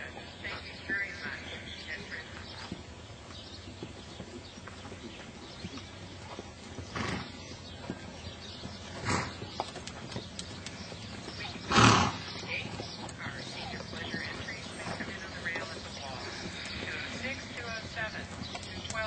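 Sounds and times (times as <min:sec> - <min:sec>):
hoofbeats on sand: 0:00.0 - 0:19.0.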